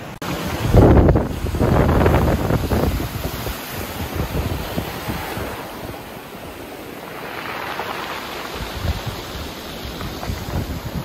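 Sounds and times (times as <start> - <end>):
sea surf washing over rocks: 0.0 - 11.0.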